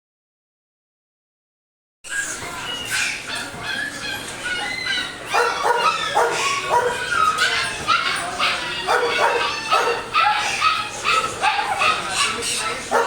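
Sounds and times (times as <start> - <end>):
dog yapping: 2.1 - 13.0.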